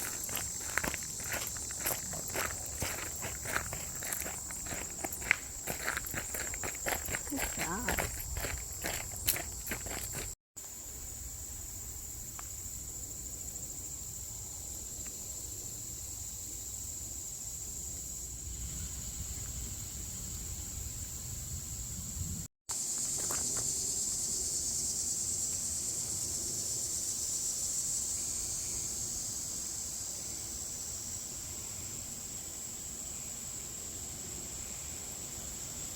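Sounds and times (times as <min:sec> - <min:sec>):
insect chorus buzzing: 0:00.0 - 0:35.9.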